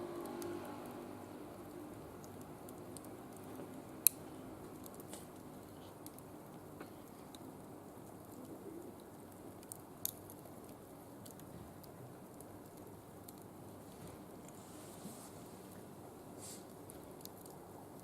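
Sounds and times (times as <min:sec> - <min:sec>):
wood fire hissing and crackling: 0:00.0 - 0:18.0.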